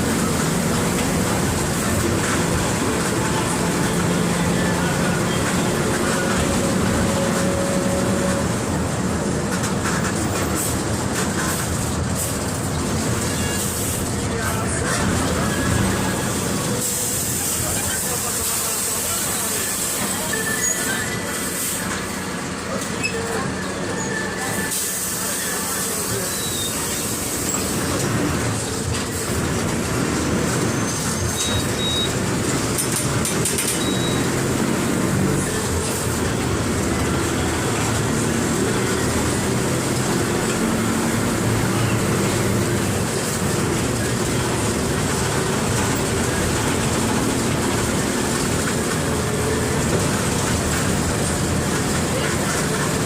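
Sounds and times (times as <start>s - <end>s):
bus body rattling: 0.0s - 53.0s
bus diesel engine running: 0.0s - 53.0s.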